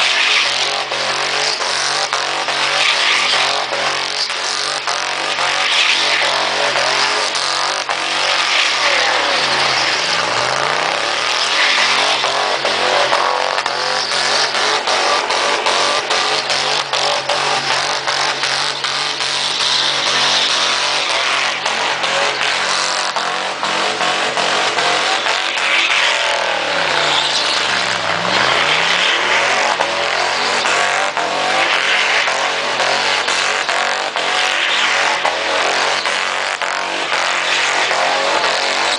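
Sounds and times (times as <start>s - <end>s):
truck engine at high revs: 0.0s - 38.9s.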